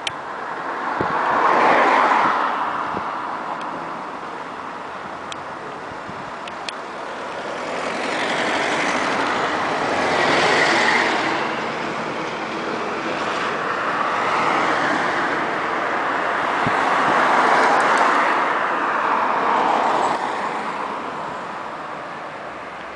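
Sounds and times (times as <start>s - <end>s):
cars passing: 0.0s - 22.9s.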